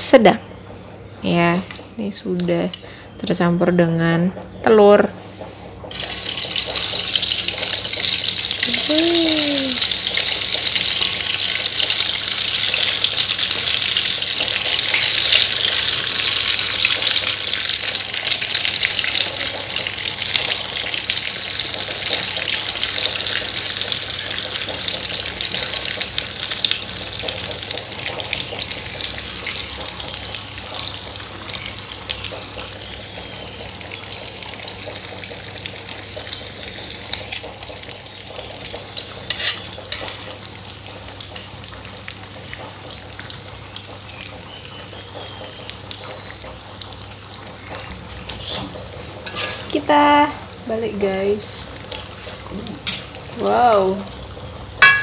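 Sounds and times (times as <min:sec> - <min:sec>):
meatballs deep-frying in oil: 0:05.8 - 0:55.0.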